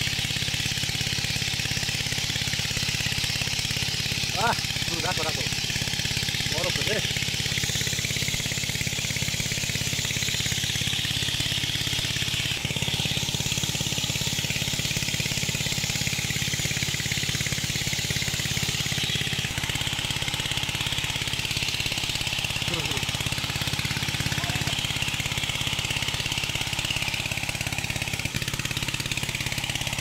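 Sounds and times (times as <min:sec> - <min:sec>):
water pump engine chugging: 0:00.0 - 0:30.0.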